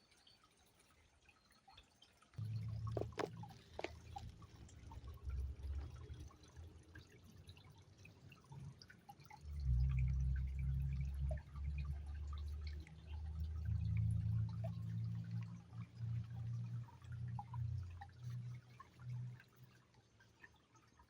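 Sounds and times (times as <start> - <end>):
river water trickling: 0.0 - 21.0.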